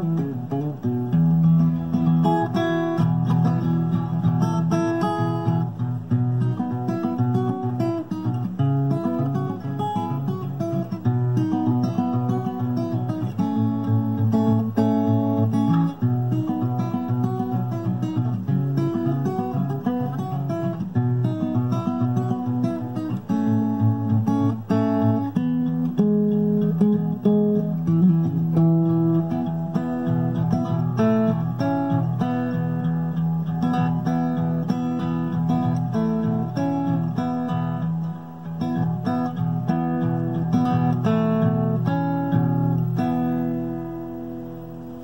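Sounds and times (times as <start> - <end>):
acoustic guitar instrumental: 0.0 - 45.0.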